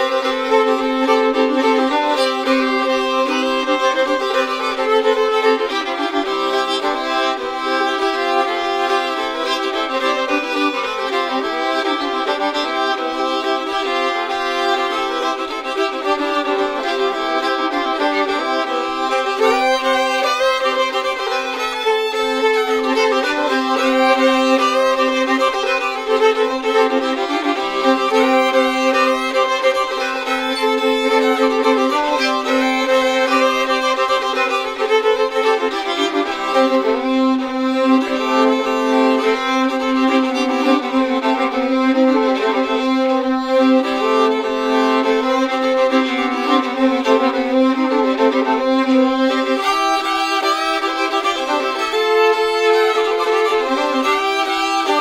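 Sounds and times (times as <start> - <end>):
two fiddles playing: 0.0 - 55.0.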